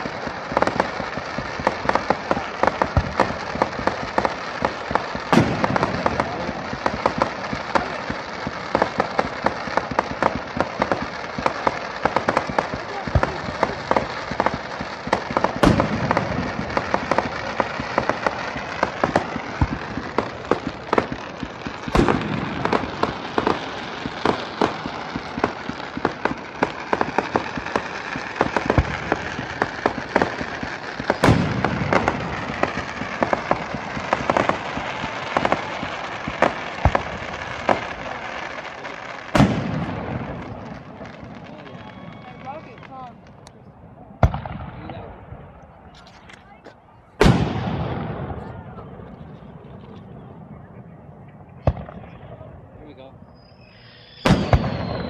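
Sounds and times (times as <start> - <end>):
firework booms: 0.0 - 55.0
fireworks crackling: 0.0 - 55.0.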